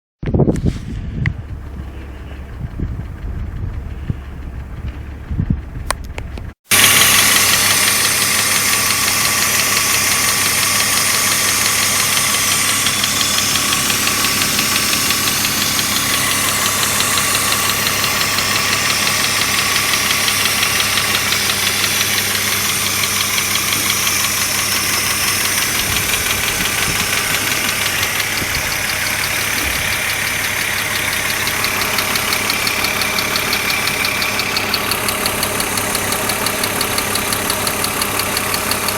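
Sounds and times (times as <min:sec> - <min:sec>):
low rumble and clicks: 0:00.2 - 0:38.9
engine running with fast pulse: 0:00.5 - 0:38.9.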